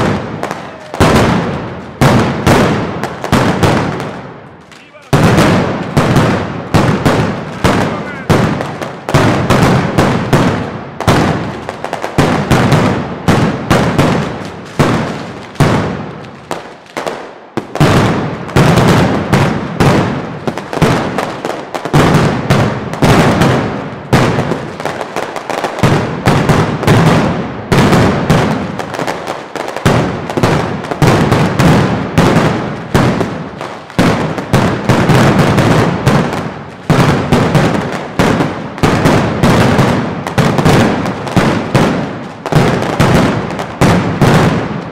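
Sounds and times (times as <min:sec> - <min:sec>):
firecrackers banging: 0:00.0 - 0:44.9.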